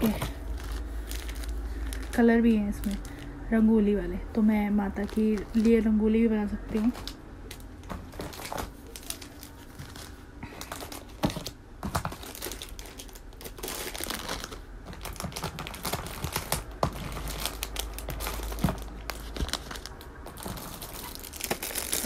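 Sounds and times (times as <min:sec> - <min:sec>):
small items rattling in plastic boxes: 0:00.0 - 0:03.4, 0:04.4 - 0:22.0
plastic packets crinkling: 0:00.0 - 0:03.7, 0:04.3 - 0:22.0.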